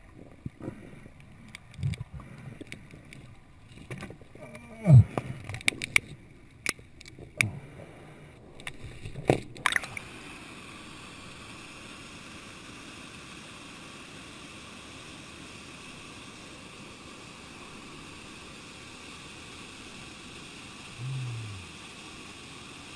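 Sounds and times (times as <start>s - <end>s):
flowing stream water: 0.0s - 22.9s.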